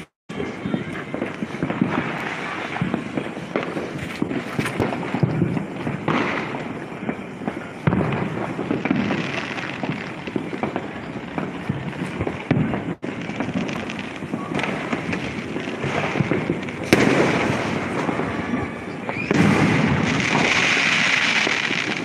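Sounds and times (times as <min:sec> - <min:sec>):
firecrackers crackling: 0:00.0 - 0:22.0
loud firework bang: 0:00.3 - 0:22.0.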